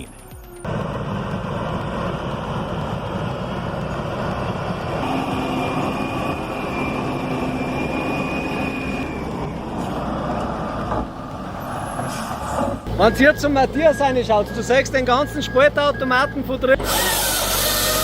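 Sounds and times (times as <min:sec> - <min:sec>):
truck engine running under load: 0:00.1 - 0:18.0.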